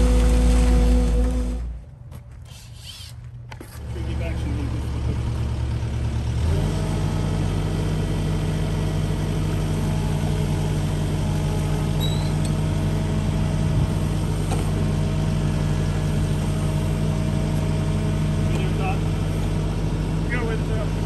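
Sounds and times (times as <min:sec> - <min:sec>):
excavator diesel engine running: 0:00.0 - 0:01.8, 0:03.8 - 0:21.0.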